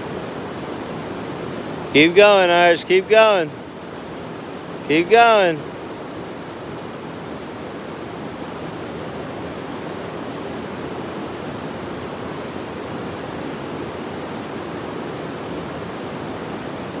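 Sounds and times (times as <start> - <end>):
creek water rushing over boulders: 0.0 - 17.0.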